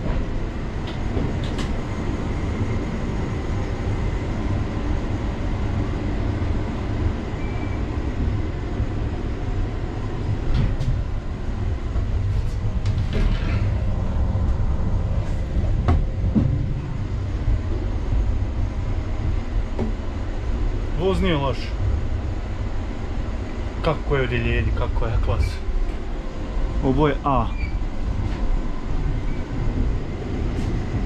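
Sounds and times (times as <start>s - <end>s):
train rumbling on the track: 0.0s - 31.0s.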